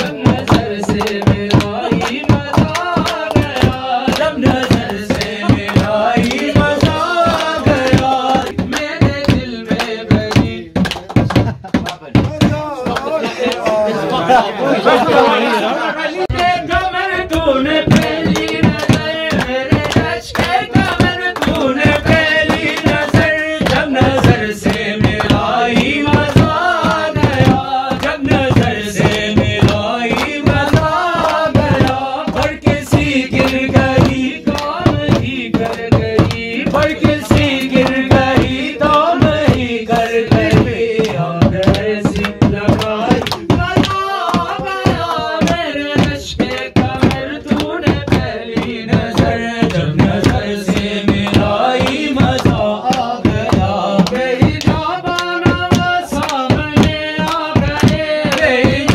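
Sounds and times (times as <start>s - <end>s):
man singing into microphone: 0.0s - 10.9s, 16.2s - 58.9s
tabla drum beat: 0.0s - 15.4s, 16.2s - 58.9s.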